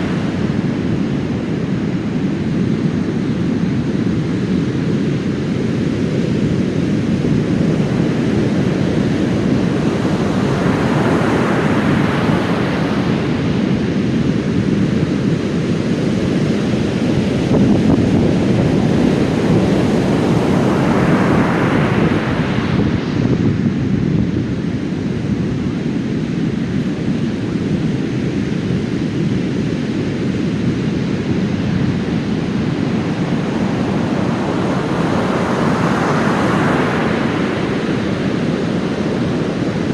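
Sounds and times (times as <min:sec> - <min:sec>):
waves crashing on beach: 0:00.0 - 0:39.9
wind buffeting microphone: 0:00.0 - 0:39.9.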